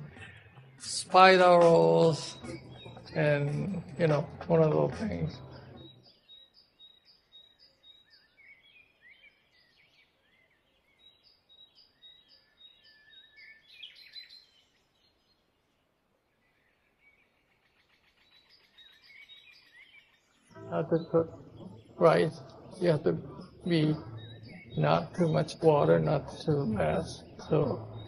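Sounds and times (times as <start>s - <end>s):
faint birdsong: 0.0s - 28.0s.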